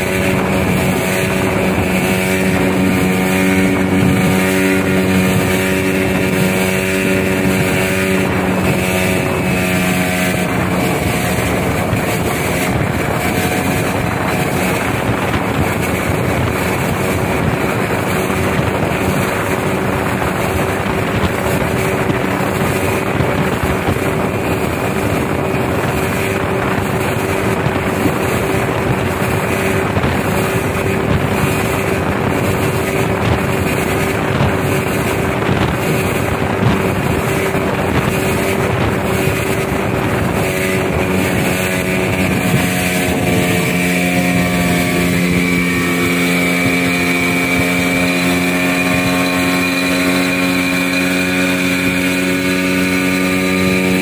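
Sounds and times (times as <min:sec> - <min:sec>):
outboard motor running: 0:00.0 - 0:54.0
water rushing along hull: 0:00.0 - 0:54.0
wind on microphone: 0:00.0 - 0:54.0.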